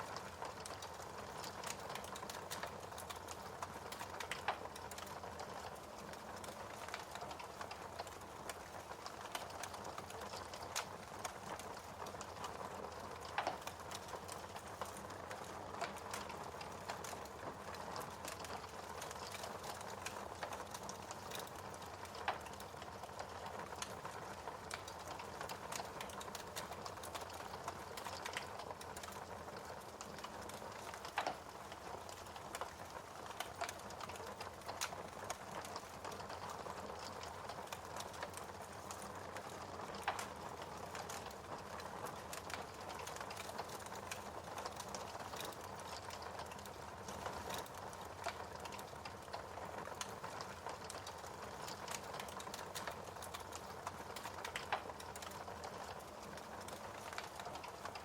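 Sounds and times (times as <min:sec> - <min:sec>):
small pops and ticks: 0:00.0 - 0:58.0
soft hiss of fire: 0:00.0 - 0:58.0
wood fire crackling: 0:00.0 - 0:58.0
loud snaps of fire: 0:00.1 - 0:58.0.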